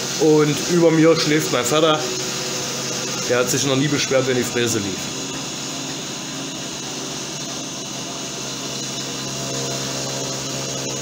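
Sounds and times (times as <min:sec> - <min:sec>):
router spindle humming and whining: 0:00.0 - 0:11.0.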